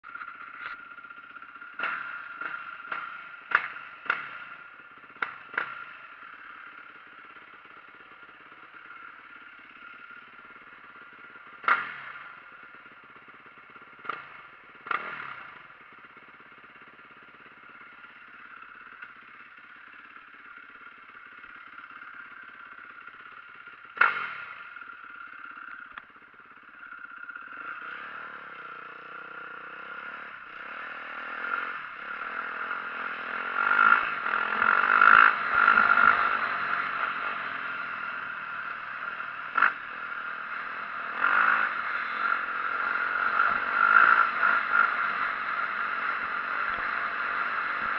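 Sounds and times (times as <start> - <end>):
dirt bike engine revving: 0.4 - 12.4, 13.2 - 15.8, 22.8 - 25.6, 26.8 - 47.9.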